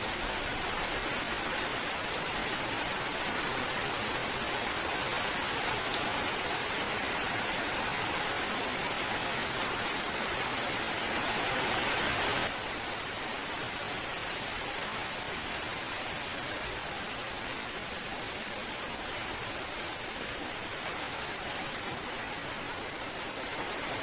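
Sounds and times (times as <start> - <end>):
dense rain hiss: 0.0 - 24.0.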